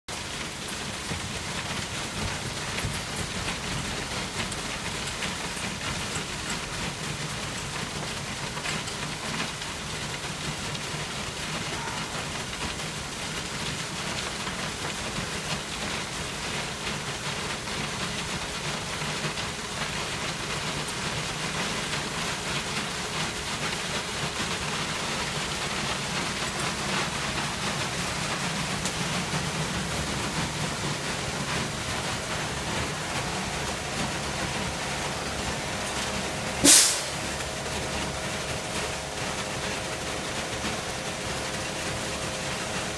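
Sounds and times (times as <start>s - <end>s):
truck engine hum: 0.1s - 42.9s
wet concrete rushing down chute: 0.1s - 42.9s.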